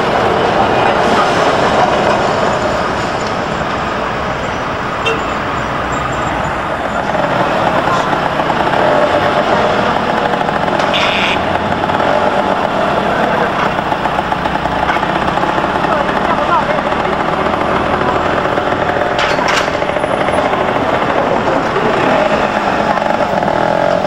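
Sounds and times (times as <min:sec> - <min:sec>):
city street traffic: 0:00.0 - 0:24.0
tram passing: 0:00.0 - 0:24.0
trolleybus passing: 0:00.0 - 0:24.0.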